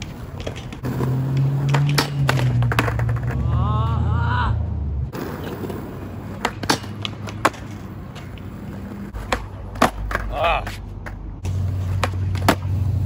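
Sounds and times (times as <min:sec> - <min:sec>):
skateboard clacks: 0:00.0 - 0:03.5, 0:05.2 - 0:13.0
skateboard rolling on concrete: 0:00.0 - 0:04.1, 0:04.9 - 0:13.0.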